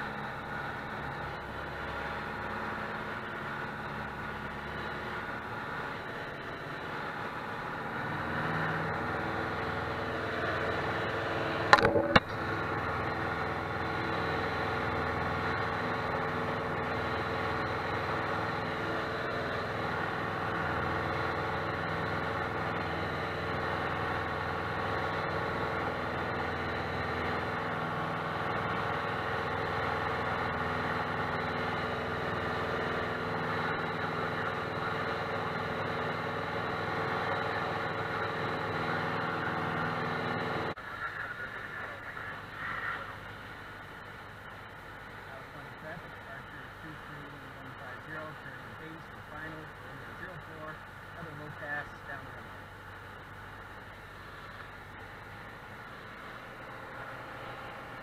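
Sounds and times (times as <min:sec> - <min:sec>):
light aircraft engine and propeller: 0:00.0 - 0:58.0.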